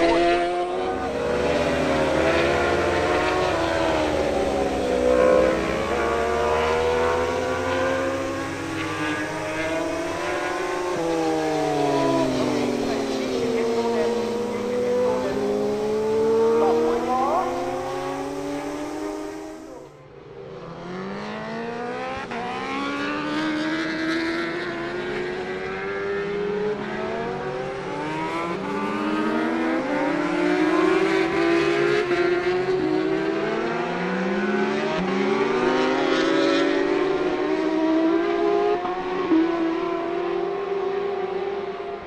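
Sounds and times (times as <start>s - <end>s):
racing motorcycle engines accelerating: 0.0s - 42.0s.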